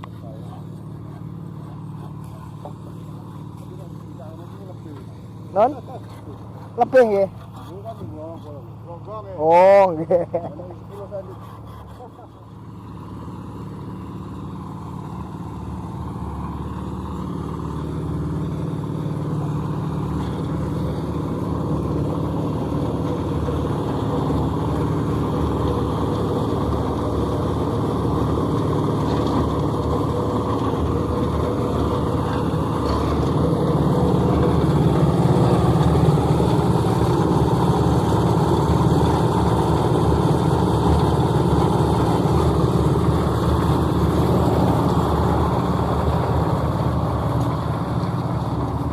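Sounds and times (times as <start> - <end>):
concrete mixer engine running: 0.0 - 48.9.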